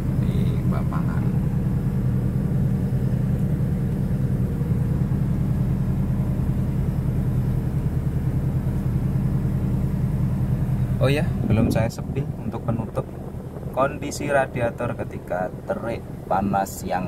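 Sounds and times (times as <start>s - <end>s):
minivan engine humming: 0.0s - 17.0s
road noise: 0.0s - 17.0s.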